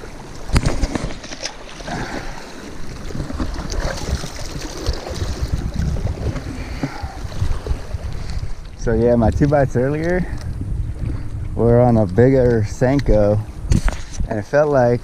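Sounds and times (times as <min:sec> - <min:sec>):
wind buffeting microphone: 0:01.8 - 0:15.0.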